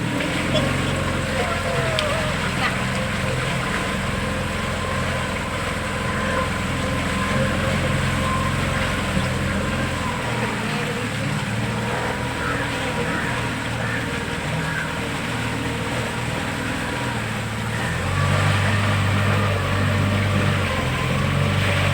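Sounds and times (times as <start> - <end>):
boat engine droning: 0.0 - 21.9.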